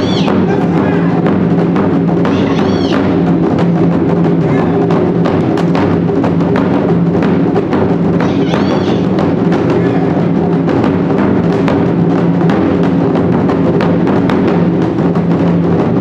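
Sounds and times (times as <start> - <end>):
taiko drum ensemble: 0.0 - 16.0.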